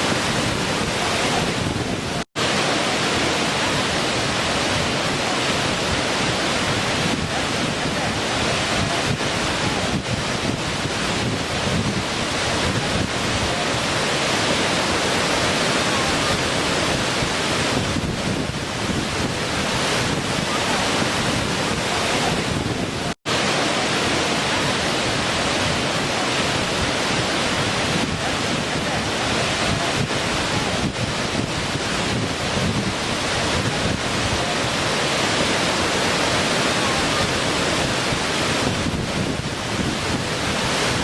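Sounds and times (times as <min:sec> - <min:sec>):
small waterfall splashing: 0:00.0 - 0:41.0.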